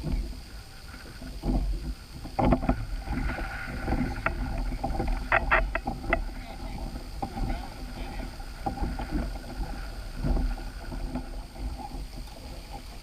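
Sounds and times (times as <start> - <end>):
short knocks and rattles: 0.0 - 13.0
wind rumbling on microphone: 0.0 - 13.0.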